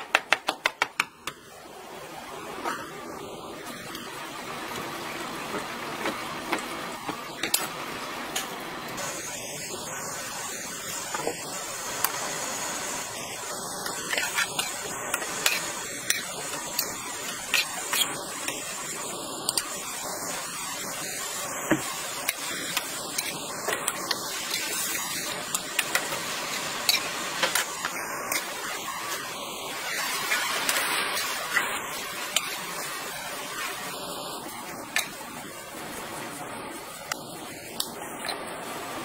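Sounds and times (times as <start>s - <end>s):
steady hiss: 2.5s - 39.0s.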